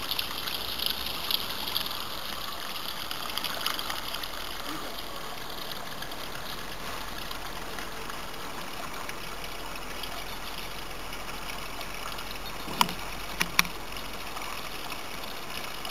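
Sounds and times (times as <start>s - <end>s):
water running across pavement: 0.0s - 15.9s.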